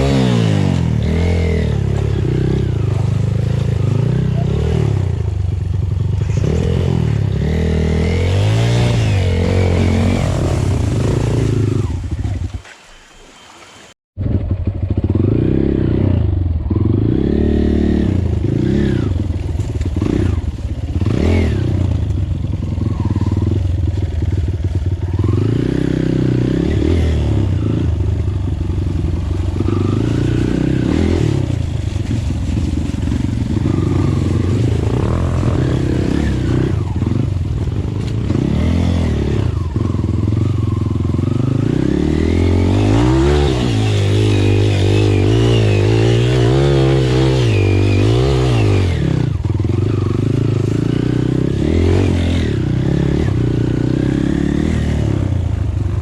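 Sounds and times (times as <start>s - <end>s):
dirt bike engine revving: 0.0s - 12.6s, 14.2s - 55.9s.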